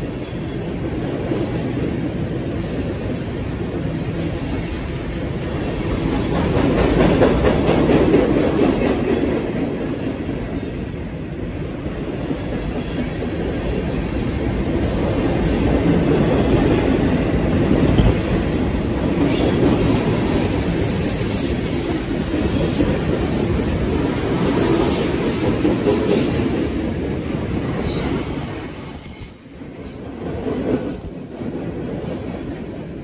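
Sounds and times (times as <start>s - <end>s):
freight train wheels rumbling on rail: 0.0s - 33.0s.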